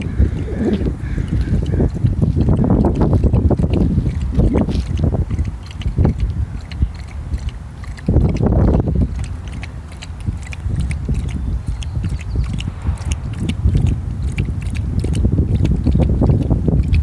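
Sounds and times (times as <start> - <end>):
dog lapping water from metal bowl: 0.0 - 17.0
wind rumble on microphone: 0.0 - 17.0.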